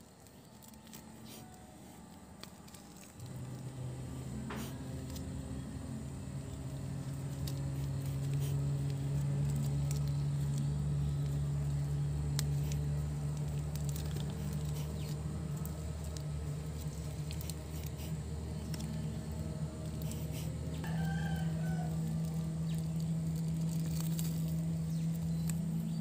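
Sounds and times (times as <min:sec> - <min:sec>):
low hum: 0:00.0 - 0:26.0
plastic tape crinkling: 0:00.0 - 0:26.0.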